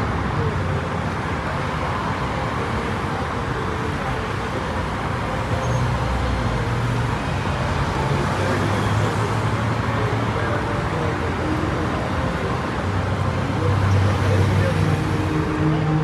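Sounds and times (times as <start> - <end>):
cars driving past: 0.0 - 16.0.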